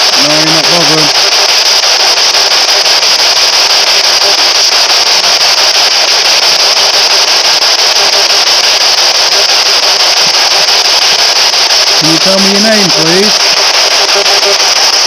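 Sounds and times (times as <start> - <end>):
radio static hiss chopped: 0.0 - 15.0.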